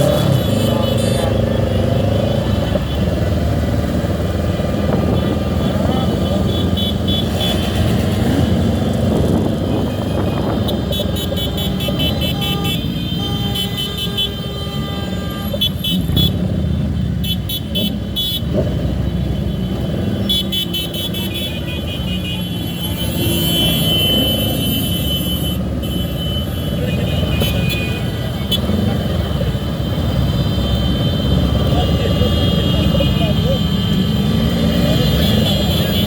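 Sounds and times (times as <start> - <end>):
horns tooting: 0.0 - 36.0
motorcycle and car traffic: 0.0 - 36.0.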